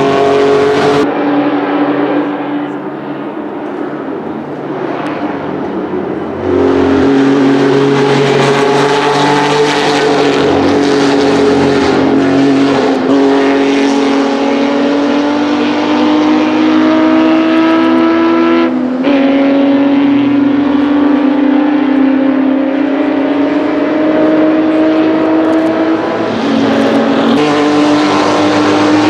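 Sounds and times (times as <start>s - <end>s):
racing car engine accelerating: 0.0s - 29.0s.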